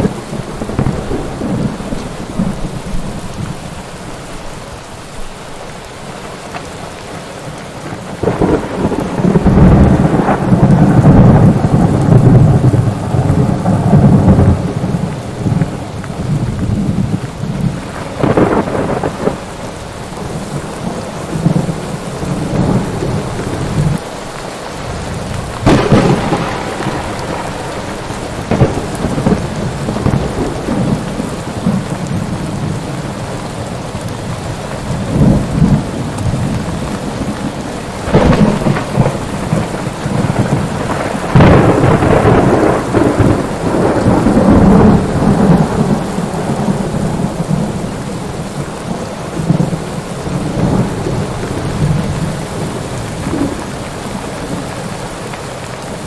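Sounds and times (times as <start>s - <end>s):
thunder claps and rolling: 0.0s - 3.8s, 7.8s - 24.1s, 24.8s - 55.0s
steady rain: 0.0s - 56.0s.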